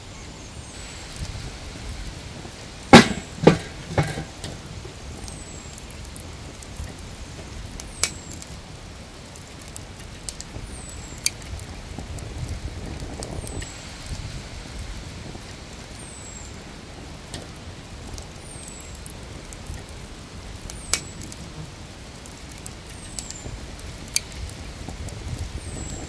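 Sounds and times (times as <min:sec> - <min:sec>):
charcoal grill crackling: 0:00.0 - 0:26.0.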